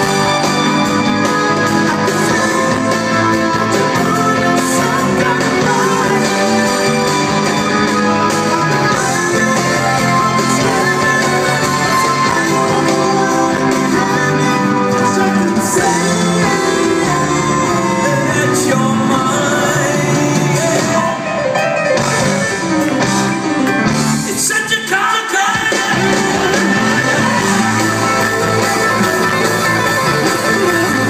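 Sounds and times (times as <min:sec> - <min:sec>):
electric guitar chords: 0:00.0 - 0:24.4, 0:25.9 - 0:31.0
lead singer: 0:00.0 - 0:31.0
live rock band playing: 0:00.0 - 0:31.0.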